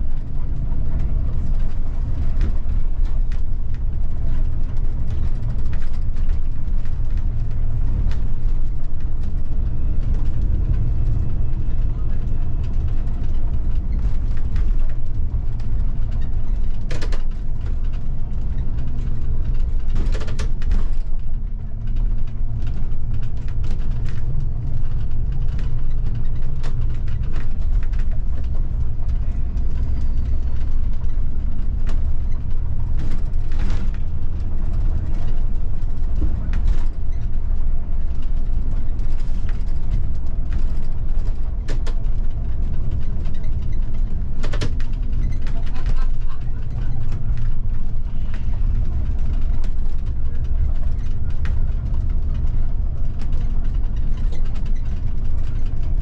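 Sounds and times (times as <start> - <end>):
bus engine and road rumble: 0.0 - 56.0
clicks and creaks from bus body: 0.0 - 56.0.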